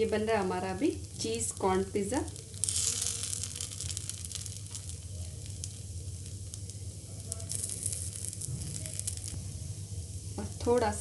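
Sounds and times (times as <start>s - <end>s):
batter sizzling in oil: 0.0s - 11.0s
low steady hum: 0.0s - 11.0s.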